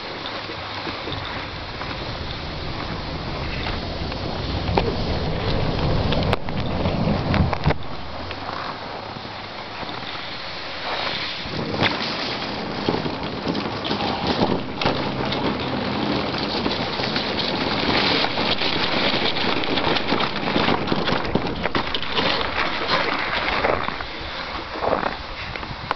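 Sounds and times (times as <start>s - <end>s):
sled runners scraping over snow: 0.0s - 25.9s.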